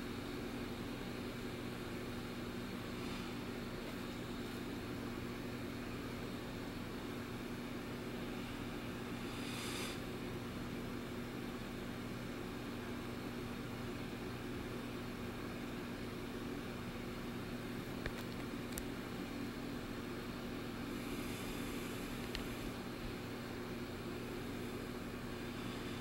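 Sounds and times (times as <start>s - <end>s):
low machine hum with hiss: 0.0s - 26.0s.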